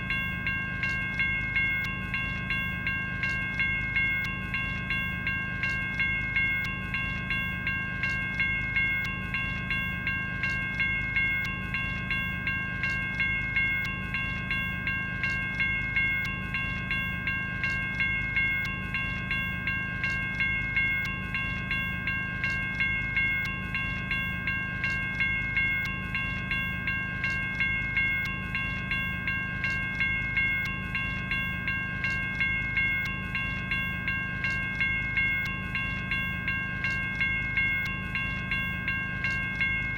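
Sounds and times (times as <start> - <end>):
electronic crossing bell ringing: 0.0 - 39.9.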